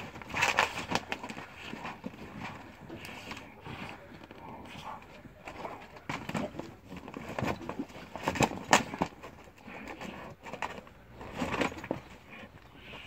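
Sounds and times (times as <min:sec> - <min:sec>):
dogs scuffling and snapping: 0:00.0 - 0:13.0.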